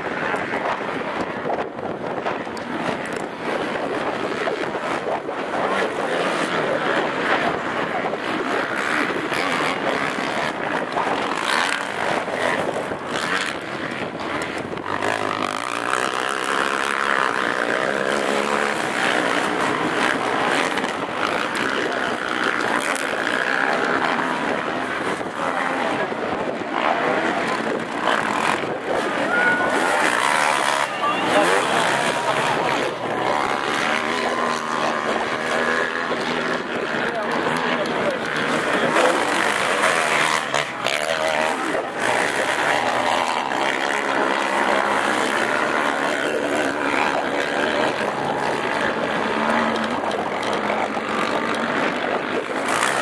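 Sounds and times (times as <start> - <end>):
racing quad engines revving: 0.0 - 53.0.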